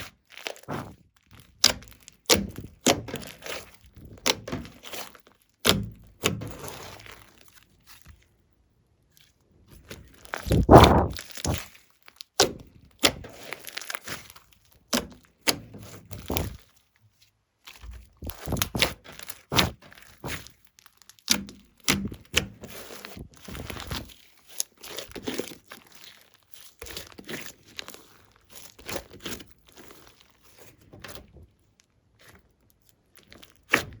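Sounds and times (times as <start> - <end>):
slime squelches: 0.0 - 8.1, 9.7 - 16.8, 17.7 - 31.3.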